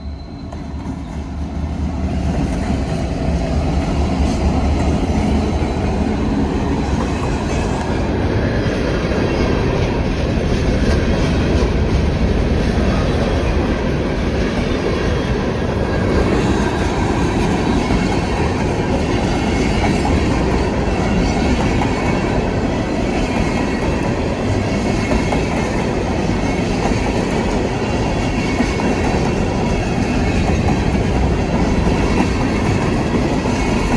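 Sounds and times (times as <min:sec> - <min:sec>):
freight train wheels on rails: 0:00.0 - 0:33.9.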